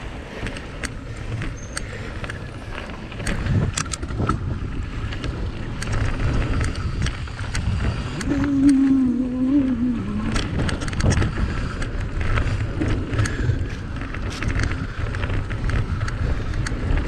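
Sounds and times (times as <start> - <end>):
bike clicking and rattling: 0.0 - 17.0
wind and rolling tyres rumble: 0.0 - 17.0.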